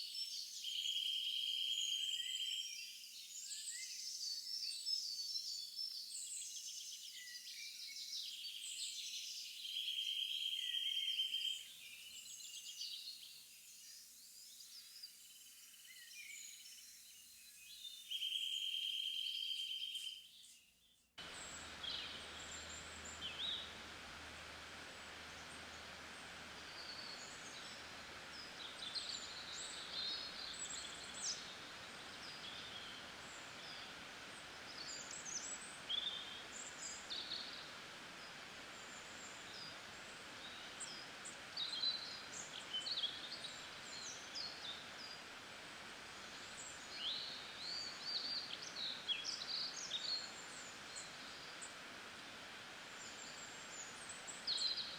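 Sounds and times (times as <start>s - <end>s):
steady outdoor hiss: 0.0s - 54.9s.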